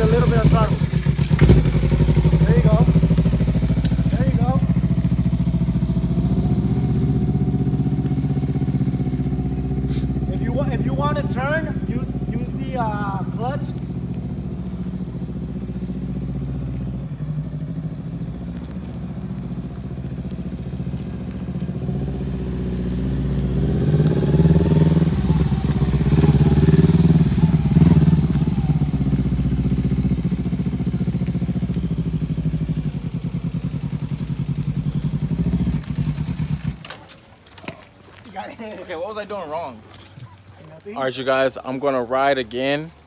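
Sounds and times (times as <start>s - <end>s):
motorcycle engine running: 0.0s - 37.3s.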